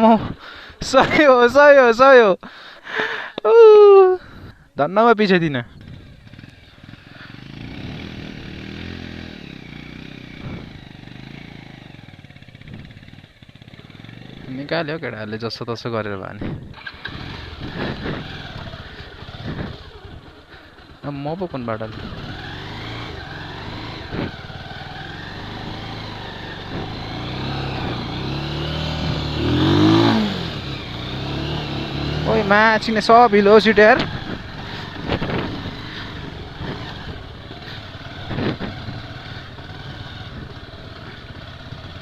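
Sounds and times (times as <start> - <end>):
motorcycle engine revving: 5.7 - 15.0, 16.4 - 42.0.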